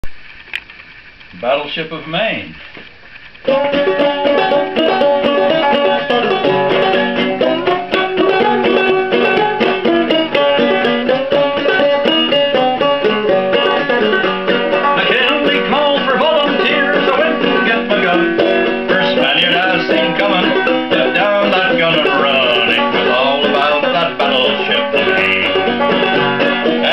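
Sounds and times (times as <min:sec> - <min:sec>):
banjo plucked and strummed: 0:03.5 - 0:26.9.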